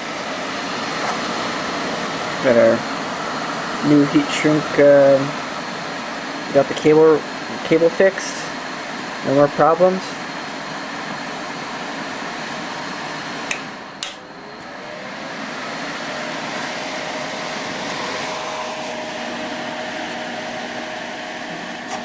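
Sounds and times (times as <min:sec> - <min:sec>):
heater fan blowing: 0:00.0 - 0:22.0.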